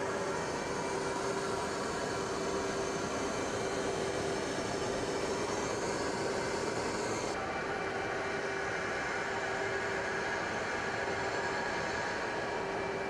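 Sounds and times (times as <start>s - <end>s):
aircraft engines droning: 0.0s - 13.0s.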